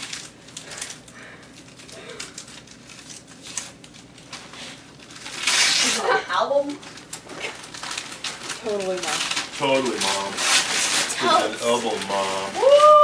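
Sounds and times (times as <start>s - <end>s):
wrapping paper rustling: 0.0s - 13.0s.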